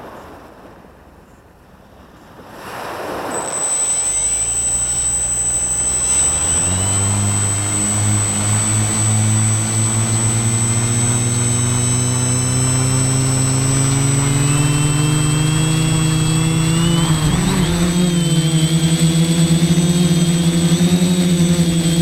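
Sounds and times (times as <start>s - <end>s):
thin high whine: 3.2s - 22.0s
drone motors and propellers humming: 3.3s - 22.0s.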